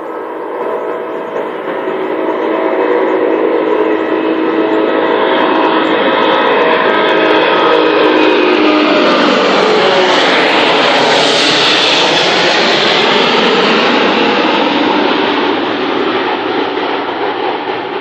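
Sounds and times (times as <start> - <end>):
jet airliner engines passing: 0.0 - 18.0.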